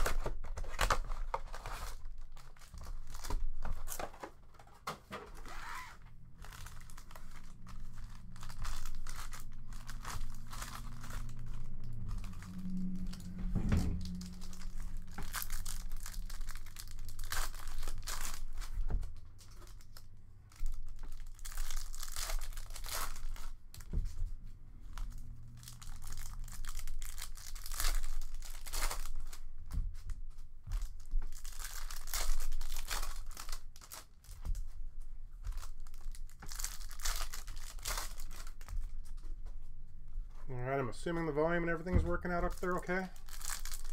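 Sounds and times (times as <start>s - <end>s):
foil wrappers crinkling: 0.0s - 24.0s, 24.8s - 34.8s, 35.4s - 39.3s, 41.0s - 43.9s.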